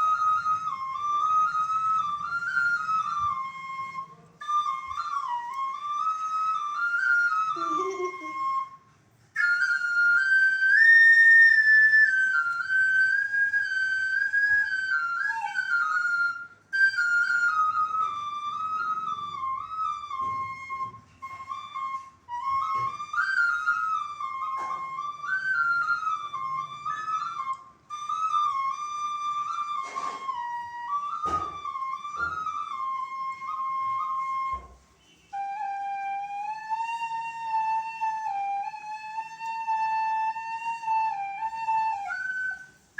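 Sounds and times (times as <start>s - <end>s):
bamboo flute melody: 0.0s - 42.9s.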